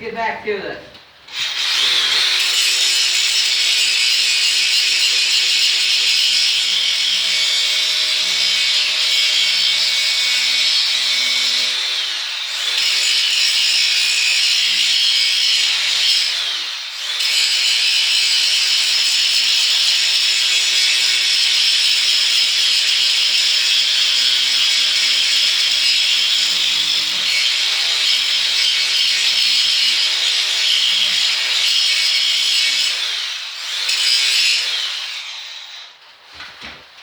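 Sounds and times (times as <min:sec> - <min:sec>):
angle grinder grinding metal: 0:01.3 - 0:36.2.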